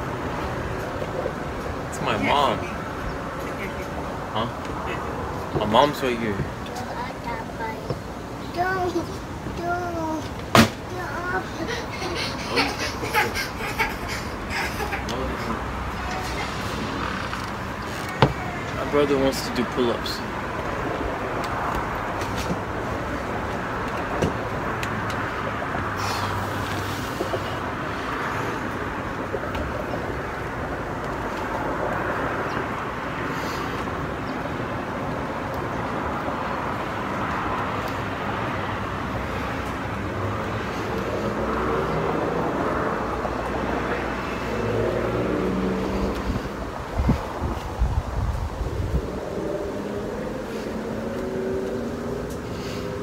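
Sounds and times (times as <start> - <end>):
road traffic hum: 0.0 - 53.0.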